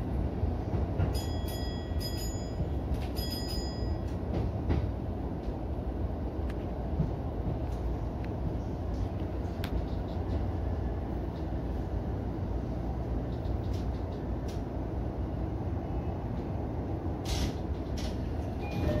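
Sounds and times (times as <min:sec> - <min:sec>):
train cab low rumble: 0:00.0 - 0:19.0.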